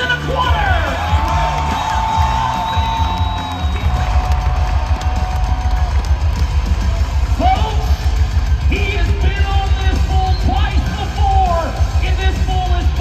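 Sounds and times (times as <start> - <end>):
loud rock music: 0.0 - 13.0.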